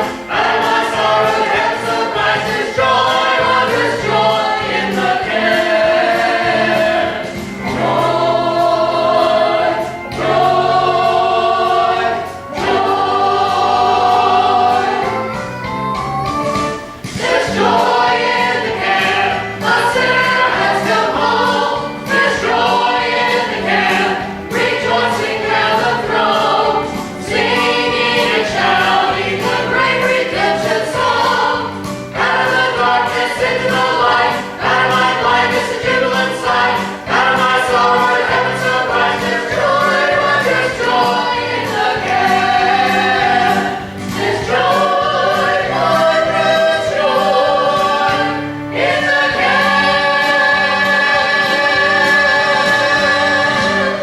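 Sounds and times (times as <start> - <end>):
group singing gospel song: 0.0 - 15.6, 16.6 - 54.0.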